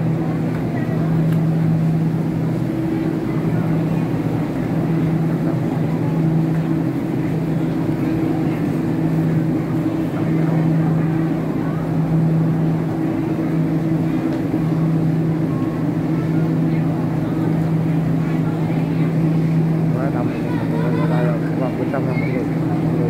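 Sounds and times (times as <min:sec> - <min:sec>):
low steady hum: 0:00.0 - 0:23.0
murmur of indoor crowd: 0:00.0 - 0:23.0.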